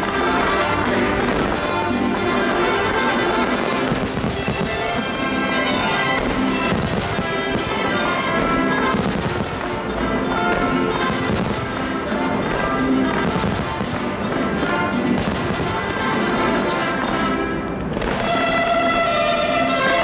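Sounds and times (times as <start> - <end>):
fireworks banging and crackling: 0.0 - 20.0
orchestral music: 0.0 - 20.0.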